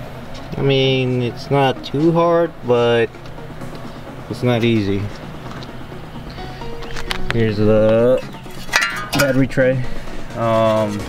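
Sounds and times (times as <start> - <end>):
background music sustained notes: 0.0 - 11.0.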